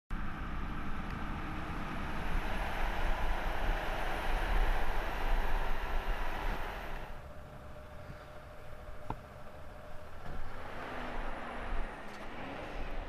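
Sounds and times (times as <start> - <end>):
heavy vehicles driving by: 0.1 - 13.0.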